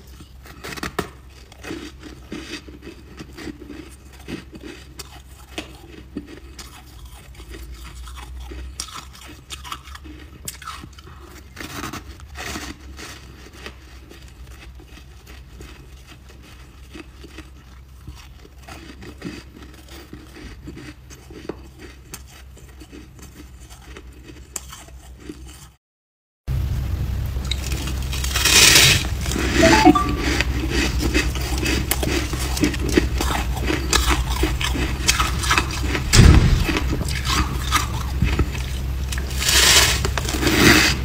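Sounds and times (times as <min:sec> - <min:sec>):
chewing crunchy ice: 0:00.0 - 0:25.8, 0:27.5 - 0:41.0.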